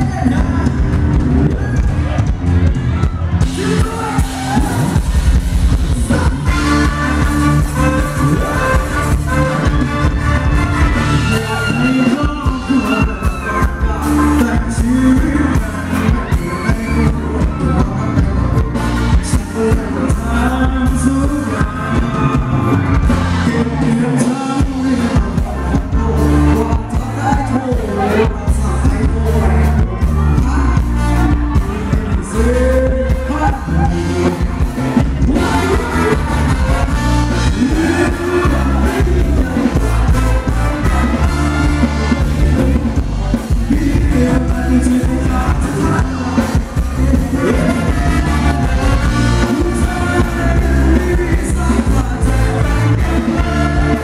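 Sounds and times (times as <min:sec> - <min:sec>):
live band playing dance music: 0:00.0 - 0:54.0
steady bass beat: 0:00.0 - 0:54.0
person singing: 0:03.0 - 0:54.0.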